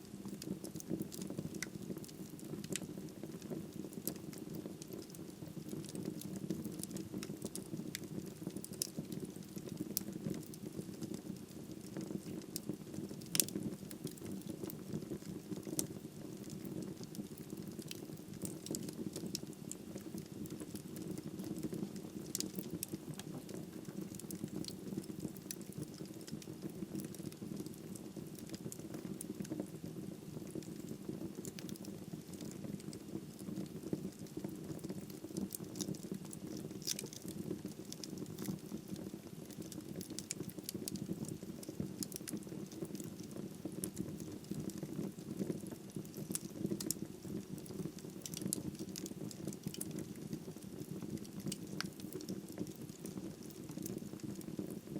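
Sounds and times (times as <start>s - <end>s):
crackles and pops of burning wood: 0.0s - 54.9s
wood fire burning: 0.0s - 54.9s.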